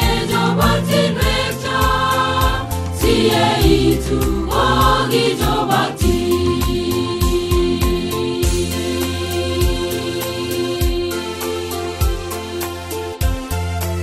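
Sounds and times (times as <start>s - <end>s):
choir singing gospel song: 0.0s - 13.3s
backing track with beat and bass: 0.0s - 14.0s.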